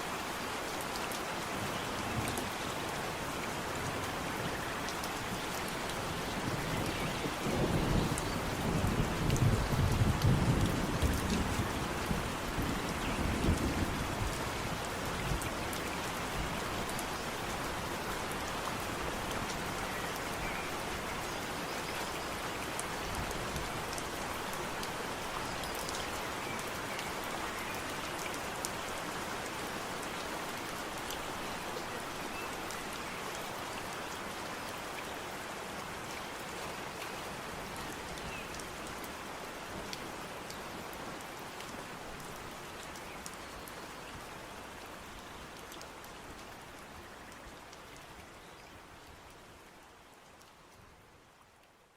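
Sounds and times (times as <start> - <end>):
rain falling on foliage: 0.0 - 51.9.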